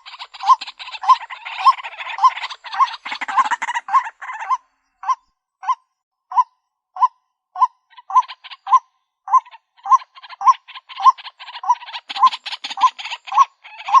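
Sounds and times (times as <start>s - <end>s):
rough raspy bird calling: 0.0s - 14.0s.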